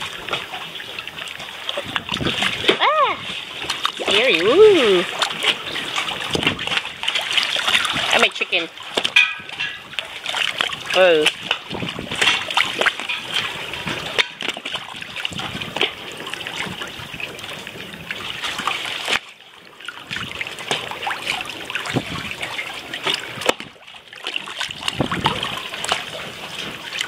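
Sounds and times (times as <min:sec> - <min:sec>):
water splashing and trickling: 0:00.0 - 0:27.0.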